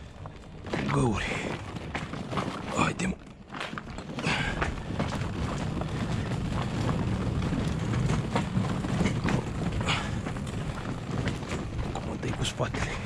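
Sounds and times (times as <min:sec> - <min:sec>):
trolley wheels rolling on rough ground: 0:00.0 - 0:13.0.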